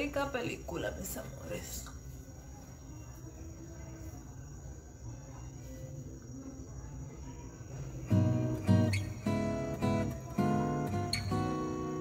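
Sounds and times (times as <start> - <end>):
faint crickets trilling: 0.0 - 12.0.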